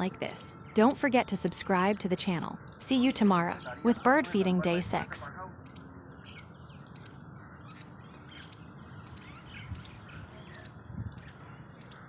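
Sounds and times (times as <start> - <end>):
outdoor background hiss: 0.0 - 12.0
small birds chirping: 0.0 - 12.0.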